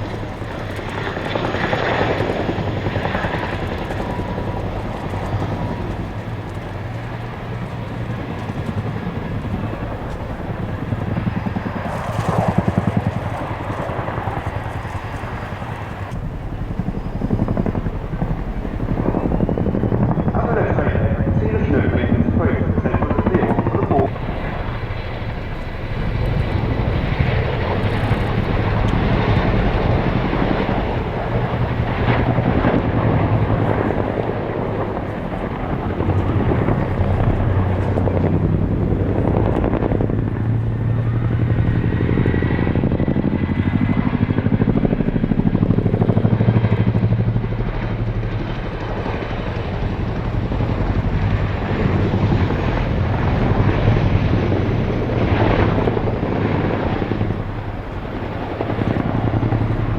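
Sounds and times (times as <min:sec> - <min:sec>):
helicopter rotor blades beating: 0:00.0 - 0:59.9
turbine engines running: 0:00.0 - 0:59.9.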